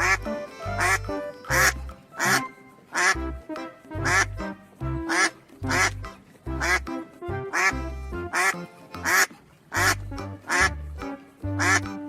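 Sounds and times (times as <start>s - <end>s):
background music with a beat: 0.0s - 12.0s
duck quacking: 0.0s - 12.0s.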